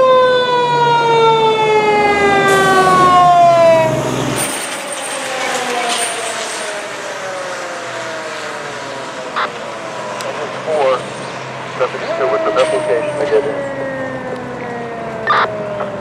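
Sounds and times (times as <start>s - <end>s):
fire engine siren wail: 0.0s - 16.0s
truck engine rumbling: 0.3s - 16.0s.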